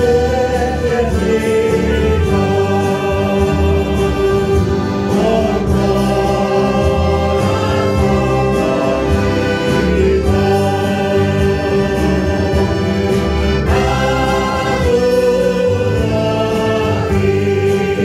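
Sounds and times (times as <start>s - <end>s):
accordion: 0.0s - 18.0s
church choir singing a hymn: 0.0s - 18.0s
guitars: 0.0s - 18.0s
saxophone: 1.0s - 18.0s.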